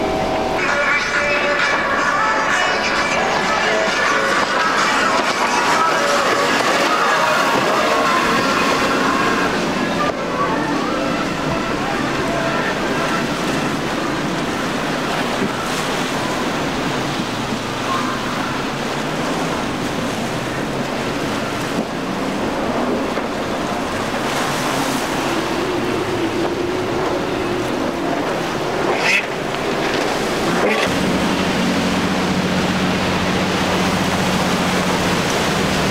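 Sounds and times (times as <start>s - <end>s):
boat wash rushing: 0.0s - 35.9s
outboard motors droning: 0.0s - 35.9s
surf breaking: 0.0s - 35.9s.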